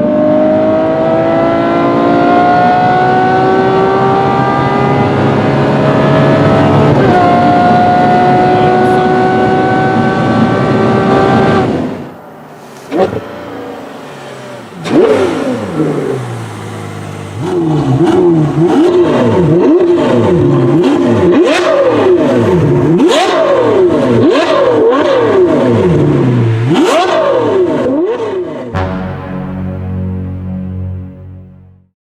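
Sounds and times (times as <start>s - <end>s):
sports car engine revving: 0.0s - 31.1s.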